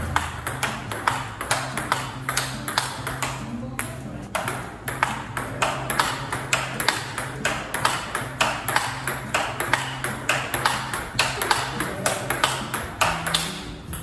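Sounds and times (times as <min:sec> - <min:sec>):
table tennis ball clicking: 0:00.0 - 0:14.0.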